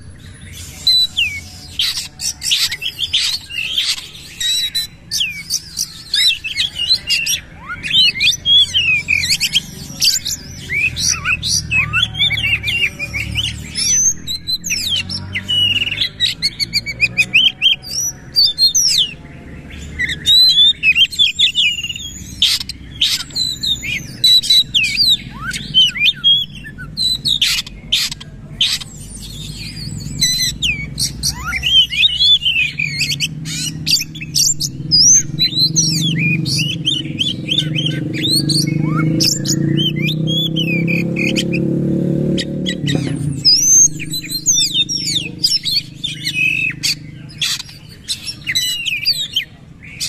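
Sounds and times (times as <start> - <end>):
magpie-robin singing: 0.0 - 50.0.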